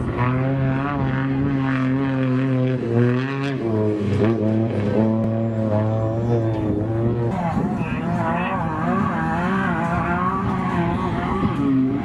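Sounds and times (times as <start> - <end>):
truck engine revving high: 0.0 - 12.0.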